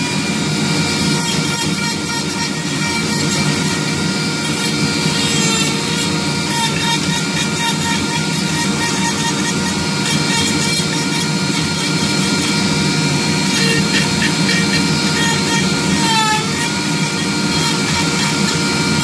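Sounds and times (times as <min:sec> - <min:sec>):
rotary tool motor whine: 0:00.0 - 0:19.0.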